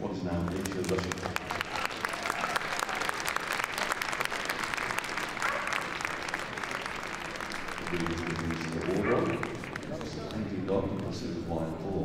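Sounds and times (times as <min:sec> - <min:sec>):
crowd applauding: 0:00.2 - 0:11.2.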